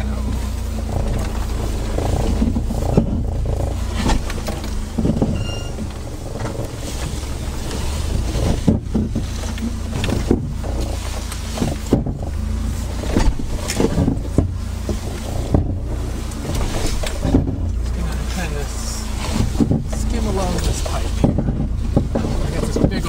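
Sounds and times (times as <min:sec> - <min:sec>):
car engine running low: 0:00.0 - 0:23.0
suspension knocks and clunks: 0:00.0 - 0:23.0
tyres crunching over stones: 0:00.0 - 0:23.0.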